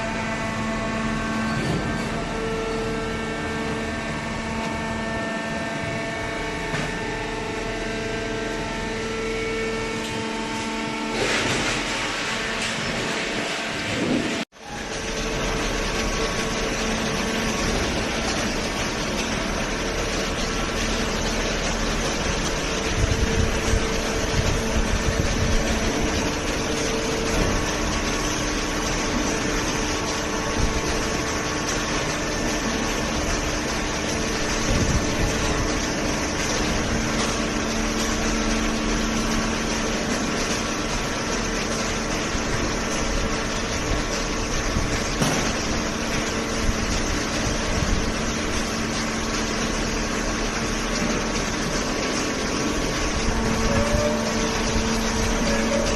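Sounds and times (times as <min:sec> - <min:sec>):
hydraulic baler humming: 0:00.0 - 0:55.9.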